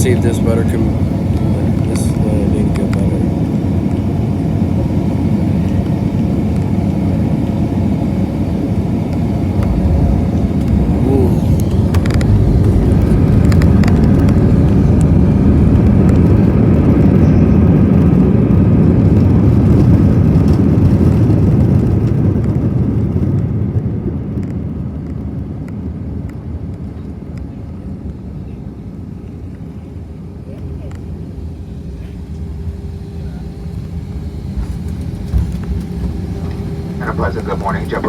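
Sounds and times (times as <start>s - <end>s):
aircraft cabin rumble: 0.0s - 38.0s.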